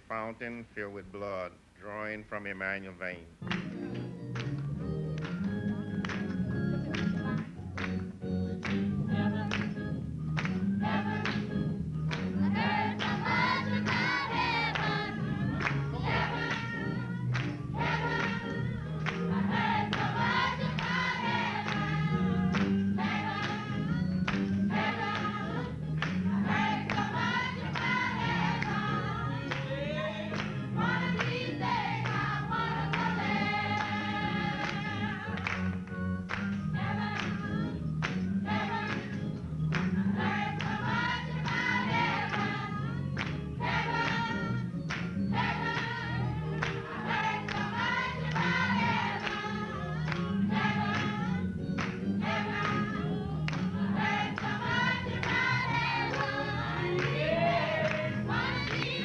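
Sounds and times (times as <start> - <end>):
hands clapping: 3.4 - 59.0
gospel choir singing: 8.6 - 59.0.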